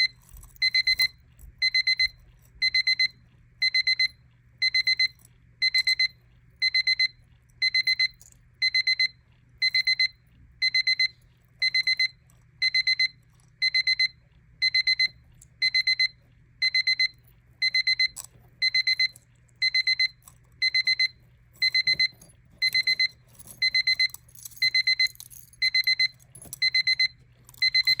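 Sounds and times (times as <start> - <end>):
alarm clock beeping: 0.0 - 28.0.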